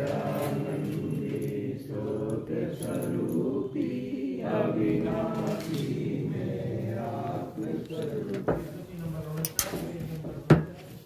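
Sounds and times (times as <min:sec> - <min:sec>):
voices chanting a hymn: 0:00.0 - 0:11.0.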